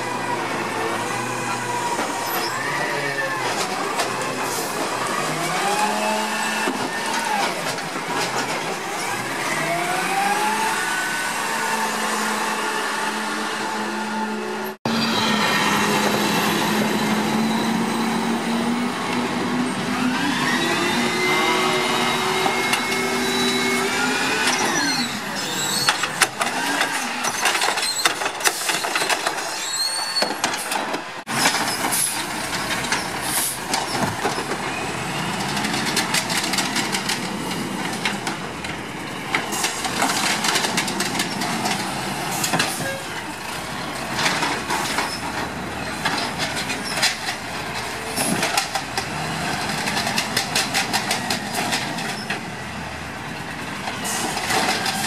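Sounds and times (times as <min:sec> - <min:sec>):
trash and carts clattering: 0:00.0 - 0:13.4, 0:15.8 - 0:55.0
hydraulics whining: 0:00.0 - 0:55.0.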